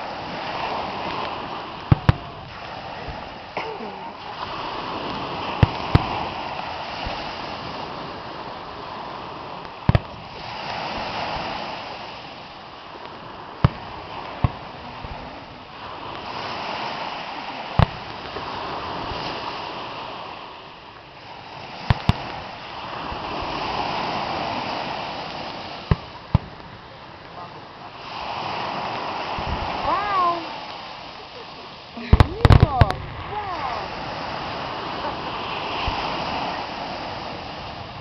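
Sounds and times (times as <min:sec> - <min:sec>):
fireworks bursting with bangs: 0:00.0 - 0:38.0.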